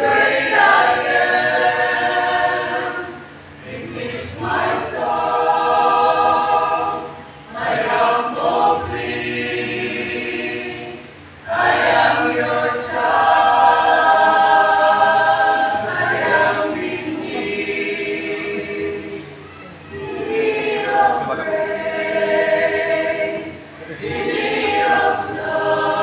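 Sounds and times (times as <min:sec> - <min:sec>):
church choir singing: 0:00.0 - 0:26.0.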